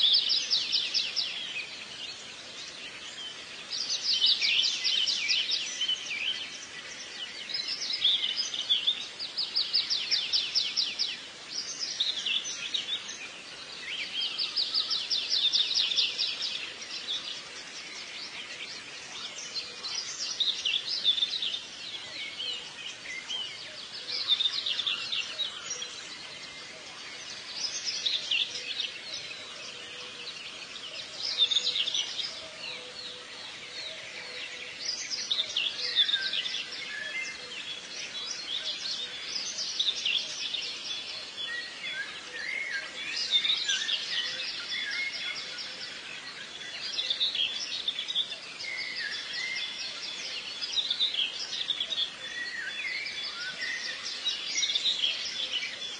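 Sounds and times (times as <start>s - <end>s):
songbirds chirping trills: 0.0s - 55.9s.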